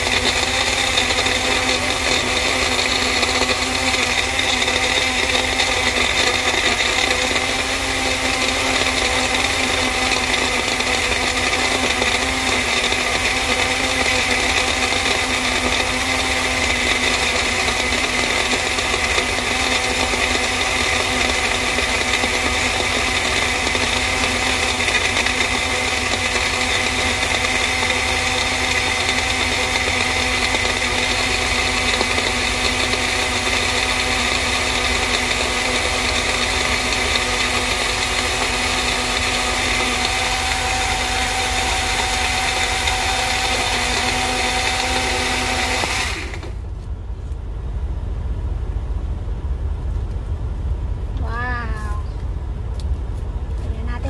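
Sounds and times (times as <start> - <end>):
blender running: 0.0 - 46.7.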